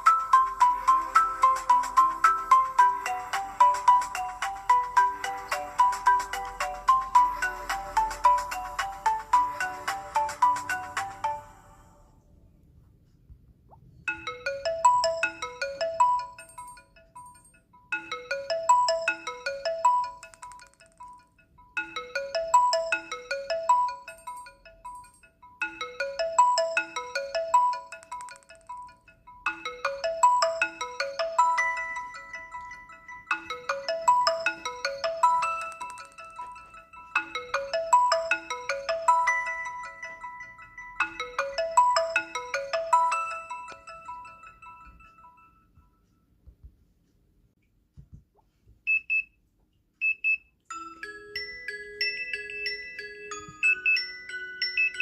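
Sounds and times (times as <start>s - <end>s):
smartphone alarm melody: 0.0s - 11.5s, 14.1s - 46.0s, 50.0s - 55.0s.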